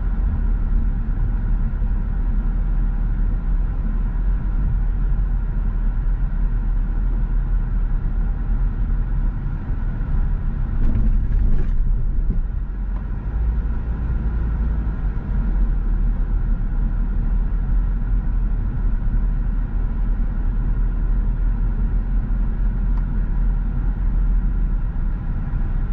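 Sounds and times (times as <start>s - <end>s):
car driving slowly: 0.0s - 25.9s.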